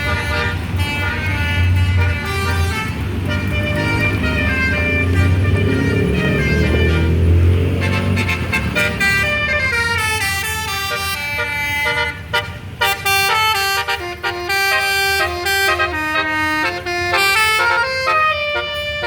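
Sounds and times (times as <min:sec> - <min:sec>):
bus musical horn playing a tune: 0:00.0 - 0:19.0.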